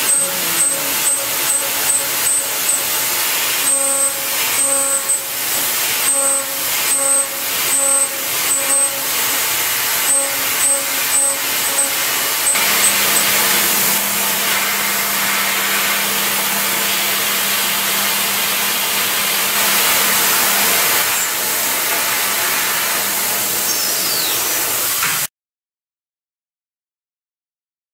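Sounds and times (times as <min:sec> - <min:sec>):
milling machine spindle whine: 0:00.0 - 0:25.0
steady hiss: 0:00.0 - 0:25.3.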